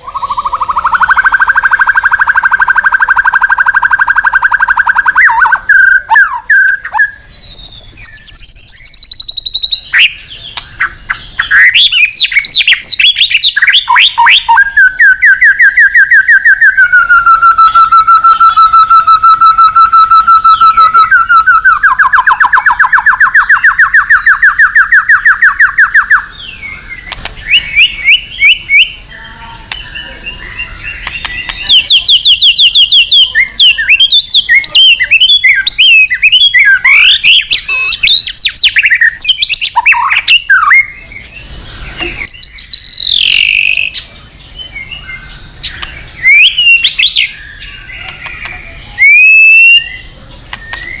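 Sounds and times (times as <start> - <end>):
bird singing whistled trills: 0.0 - 51.0.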